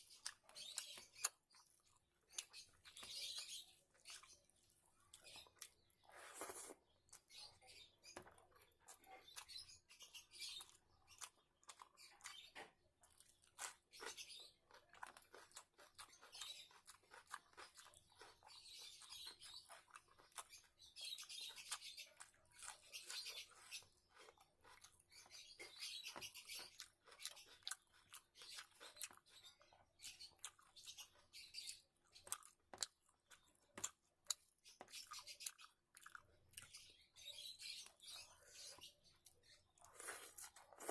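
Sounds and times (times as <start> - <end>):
wet chewing and lip smacking: 0.0 - 40.9.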